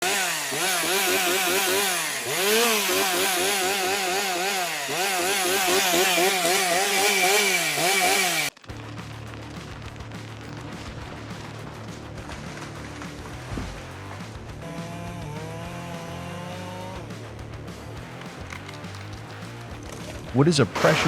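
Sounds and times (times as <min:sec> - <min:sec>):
chainsaw engine running: 0:00.0 - 0:21.0.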